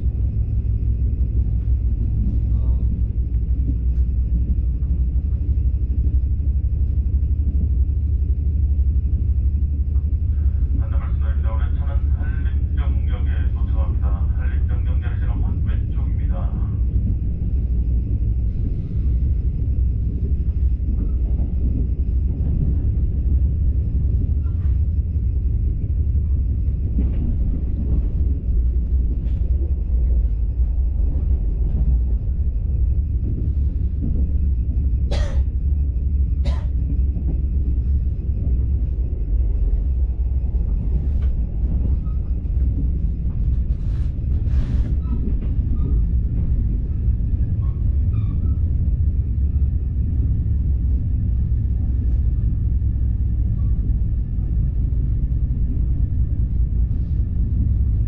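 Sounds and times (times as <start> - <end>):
train rumbling inside carriage: 0.0 - 58.0.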